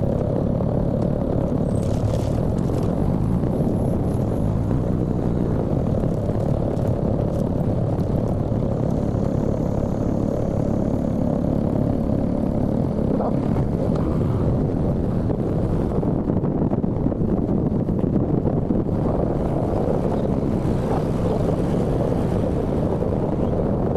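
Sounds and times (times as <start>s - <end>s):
wind rush: 0.0s - 23.9s.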